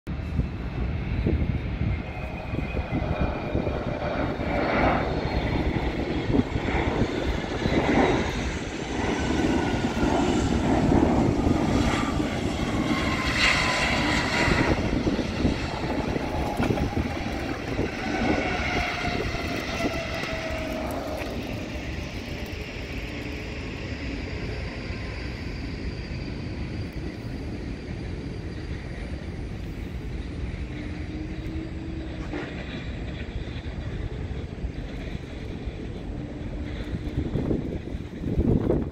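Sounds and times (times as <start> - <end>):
jet engines roaring: 0.1 - 38.9.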